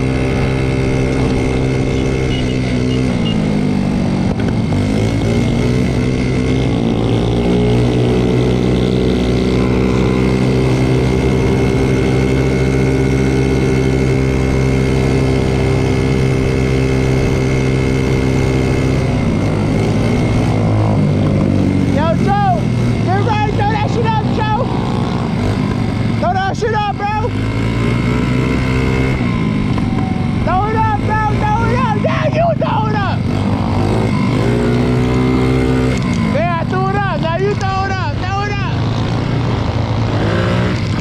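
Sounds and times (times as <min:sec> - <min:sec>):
moped engine running: 0:00.0 - 0:41.0.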